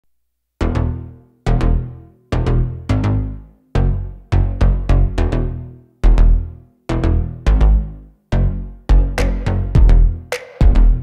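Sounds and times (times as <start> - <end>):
electronic music with bass tones: 0.6 - 11.0.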